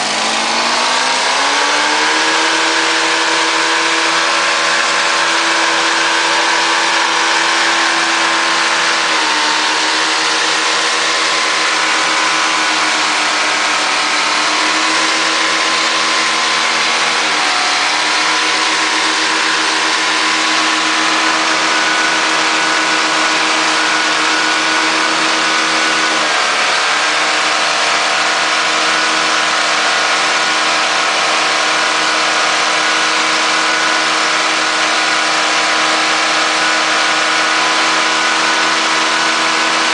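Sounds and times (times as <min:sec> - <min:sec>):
car engine running at high revs: 0:00.0 - 0:39.9.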